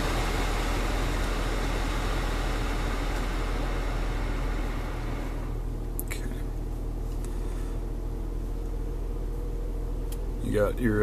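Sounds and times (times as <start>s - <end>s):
air rushing from vents: 0.0s - 11.0s
low hum: 0.0s - 11.0s.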